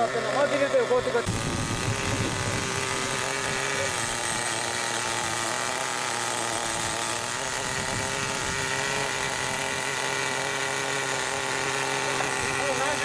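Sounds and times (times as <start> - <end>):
small engine idling high-pitched: 0.0 - 13.0.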